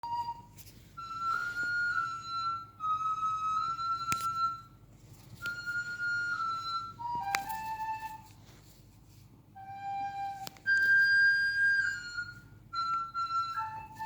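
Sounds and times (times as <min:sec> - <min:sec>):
flute playing slow notes: 0:00.0 - 0:08.5, 0:09.5 - 0:14.0.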